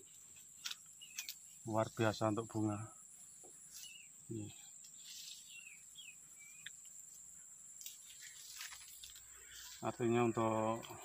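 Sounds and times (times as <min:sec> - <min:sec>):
bird chirping: 0:00.0 - 0:11.0
insects shrilling: 0:00.0 - 0:11.0.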